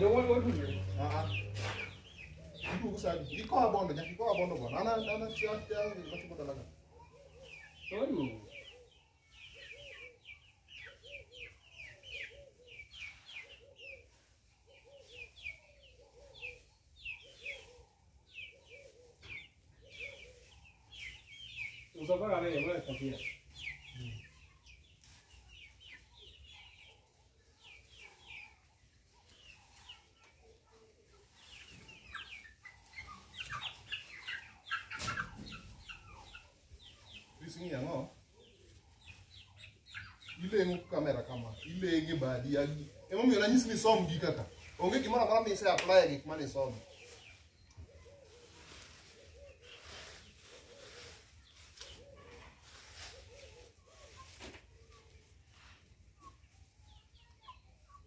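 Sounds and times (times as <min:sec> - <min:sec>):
poultry peeping: 0:00.0 - 0:58.0
soft low poultry calls: 0:00.0 - 0:58.0.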